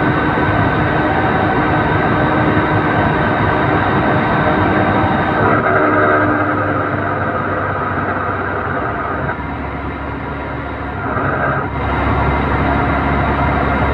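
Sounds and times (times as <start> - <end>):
van drivetrain hum: 0.0 - 13.9
van engine under load: 0.0 - 13.9.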